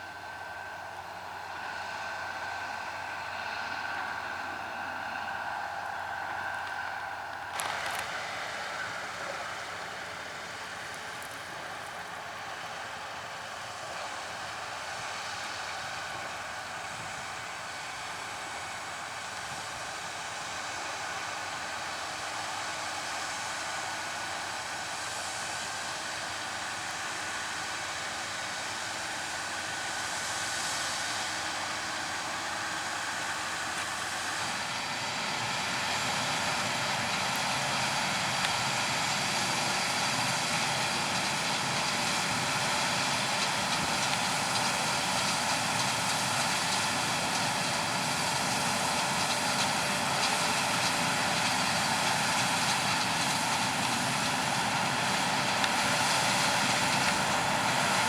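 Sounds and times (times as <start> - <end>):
harvest machinery running: 0.0 - 58.0.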